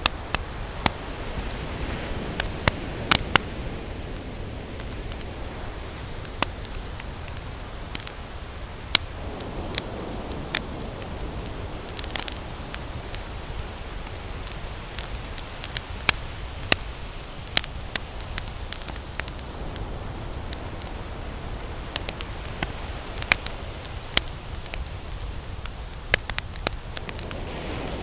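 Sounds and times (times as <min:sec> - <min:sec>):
campfire crackling and popping: 0:00.0 - 0:28.0
surf rumbling: 0:00.0 - 0:28.0.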